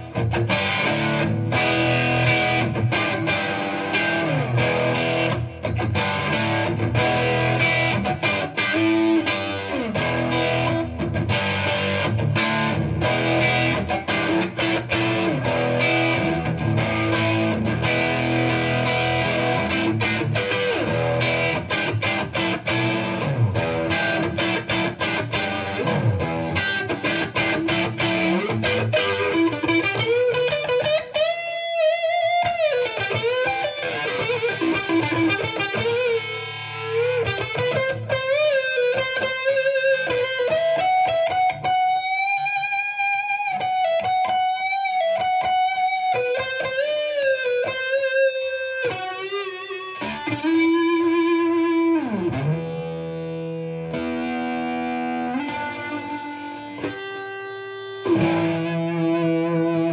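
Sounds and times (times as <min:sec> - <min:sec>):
overdriven electric guitar: 0:00.0 - 0:59.9.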